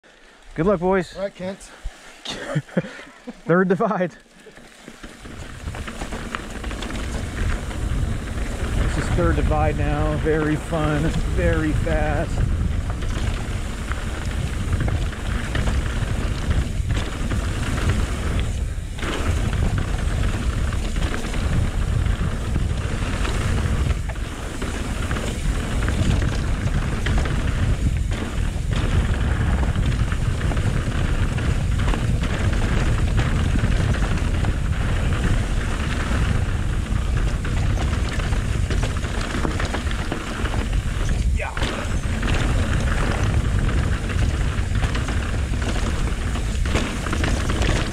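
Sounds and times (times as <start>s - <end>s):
mountain bike rattling on dirt trail: 0.0s - 47.9s
wind buffeting microphone: 4.8s - 47.9s.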